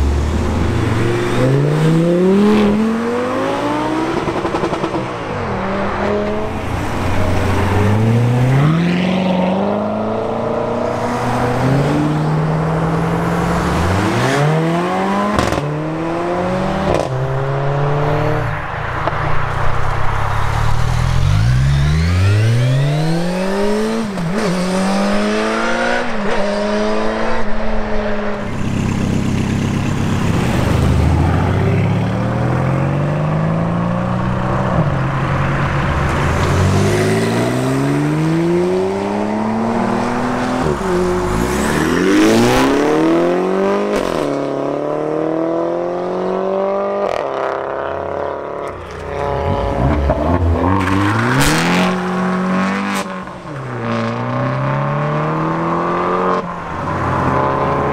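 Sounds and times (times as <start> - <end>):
sports cars accelerating hard: 0.0 - 19.4, 20.2 - 57.9.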